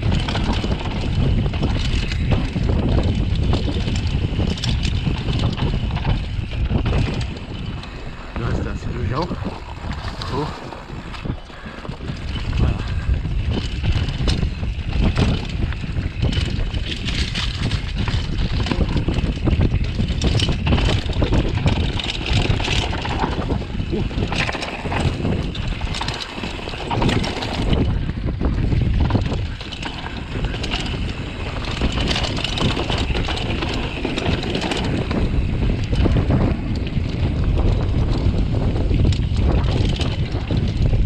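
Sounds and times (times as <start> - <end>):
bike knocking and rattling: 0.0 - 41.0
wind buffeting microphone: 0.0 - 41.0.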